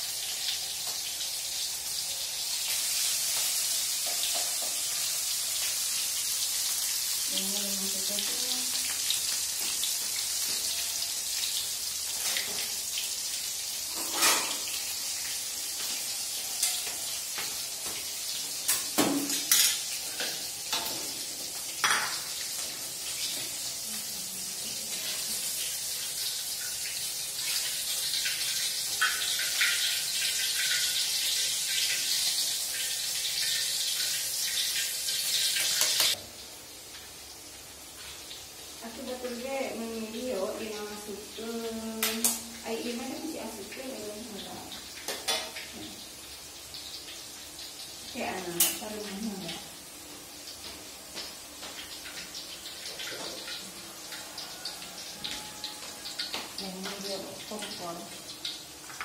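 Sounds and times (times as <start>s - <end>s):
hot oil sizzling in a wok: 0.0s - 59.0s.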